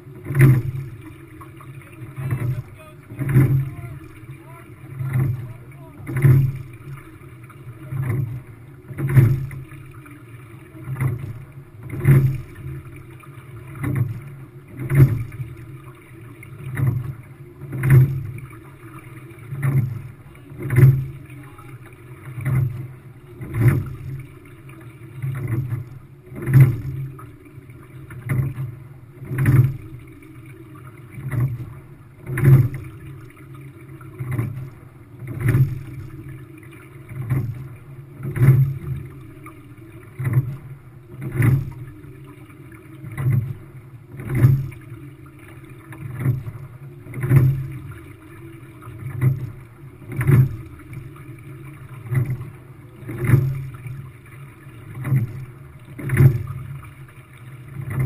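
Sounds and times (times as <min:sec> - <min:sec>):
oars and rigging knocking: 0:00.0 - 0:58.0
water washing along hull: 0:00.0 - 0:58.0.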